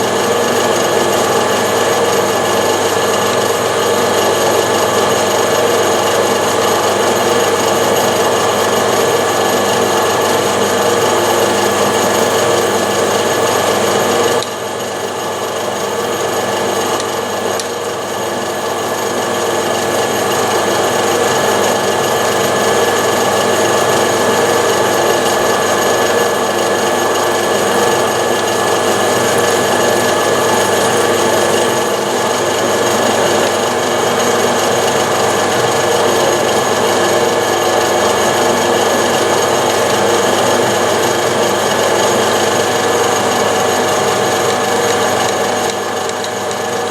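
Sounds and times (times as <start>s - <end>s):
metal lathe cutting: 0.0s - 46.9s.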